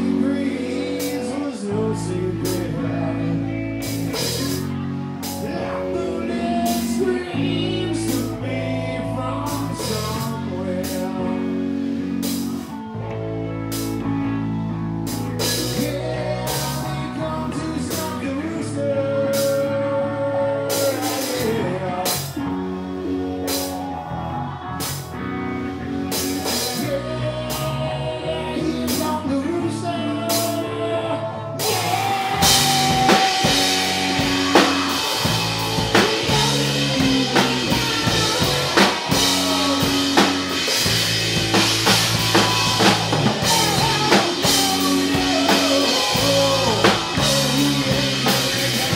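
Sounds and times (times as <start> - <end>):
drum kit: 0.0 - 1.6, 2.3 - 18.4, 20.6 - 24.1, 24.8 - 29.3, 30.3 - 30.8, 31.6 - 48.9
bass guitar: 0.0 - 48.9
electric guitar: 0.0 - 48.9
lead singer: 0.0 - 48.9.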